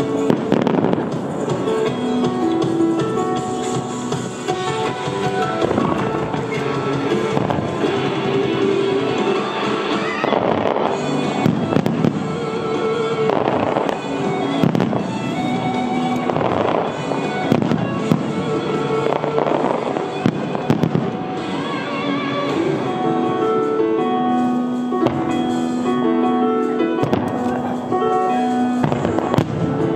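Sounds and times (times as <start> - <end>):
fireworks bursting and crackling: 0.0 - 29.9
show music with sustained notes: 0.0 - 29.9.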